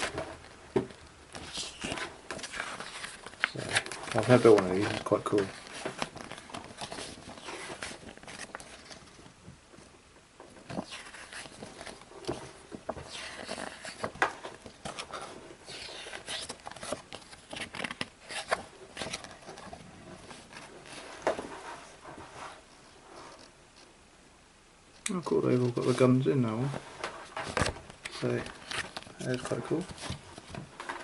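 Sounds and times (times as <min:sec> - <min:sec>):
packaging rustling and crinkling: 0:00.0 - 0:09.9, 0:10.5 - 0:22.6, 0:25.4 - 0:31.0.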